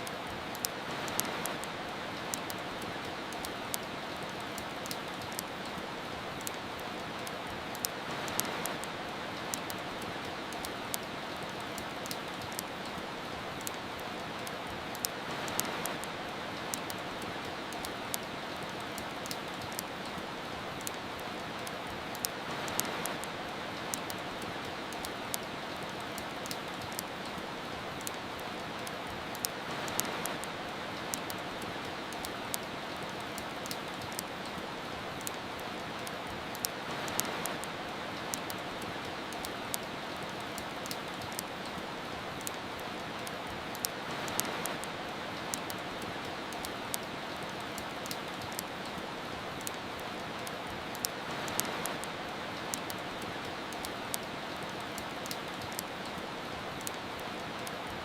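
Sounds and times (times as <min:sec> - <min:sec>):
fireplace crackling: 0:00.0 - 0:58.0
steady rain hiss: 0:00.0 - 0:58.0.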